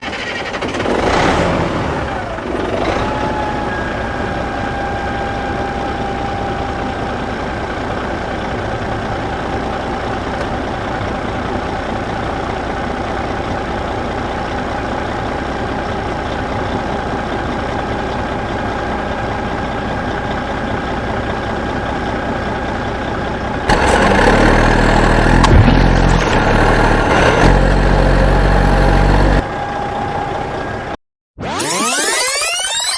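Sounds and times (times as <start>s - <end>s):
heavy vehicle engine running: 0.0s - 31.0s.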